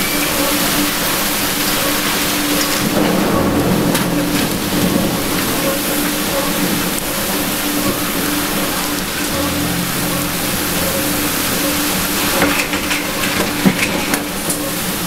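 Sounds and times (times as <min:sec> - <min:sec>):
heavy rain on street: 0:00.0 - 0:15.0.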